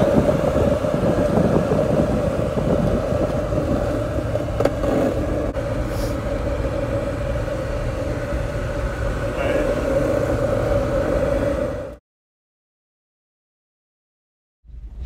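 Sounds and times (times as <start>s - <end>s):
vehicle engine and tyres rumbling: 0.0s - 12.0s, 14.7s - 15.0s.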